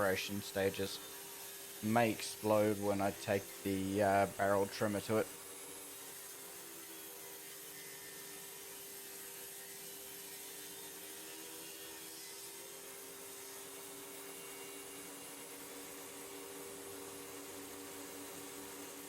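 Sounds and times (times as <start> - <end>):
table saw whirring: 0.0 - 19.0.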